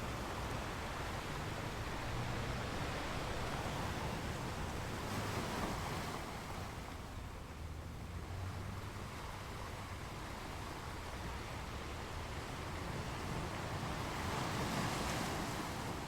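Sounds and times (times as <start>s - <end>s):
sea waves washing onto beach: 0.0s - 7.5s, 8.5s - 16.0s.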